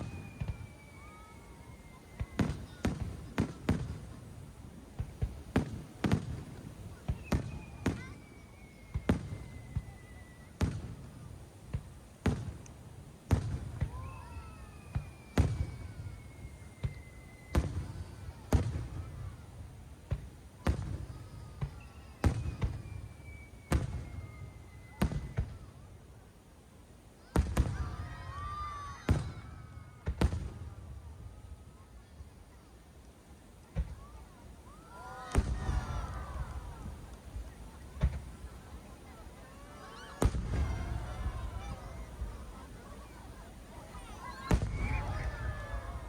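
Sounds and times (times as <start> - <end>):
falling firework whistles: 0.0 - 4.1, 5.2 - 12.6, 13.3 - 19.5, 20.1 - 26.0, 27.2 - 32.2, 33.8 - 46.0
fireworks booms with rumbling echo: 0.0 - 25.9, 27.2 - 31.6, 33.7 - 34.2, 35.1 - 38.8, 40.1 - 43.2, 43.9 - 46.0
fireworks crackles: 0.0 - 26.2, 27.2 - 46.0.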